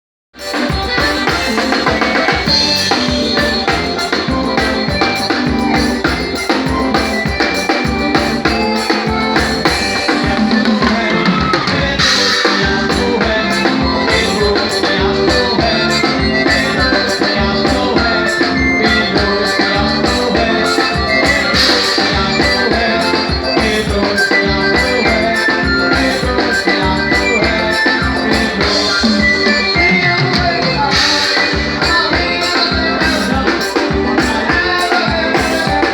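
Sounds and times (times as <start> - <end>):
band playing live: 0.4 - 35.9
drum kit steady beat: 0.4 - 35.9.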